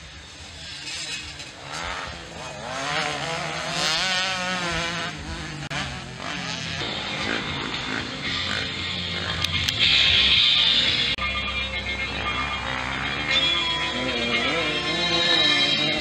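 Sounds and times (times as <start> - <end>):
motocross bikes revving past: 0.0 - 11.2, 12.0 - 16.0.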